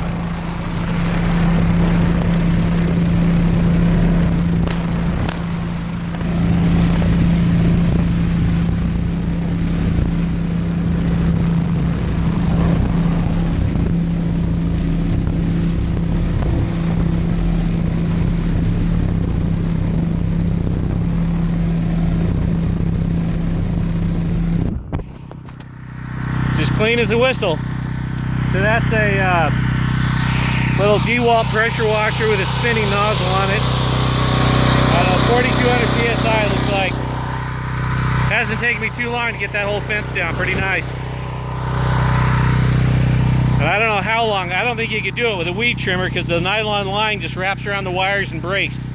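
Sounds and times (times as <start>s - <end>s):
water jet hissing: 0.0s - 24.4s, 27.7s - 44.2s
pressure washer engine humming: 0.0s - 48.9s.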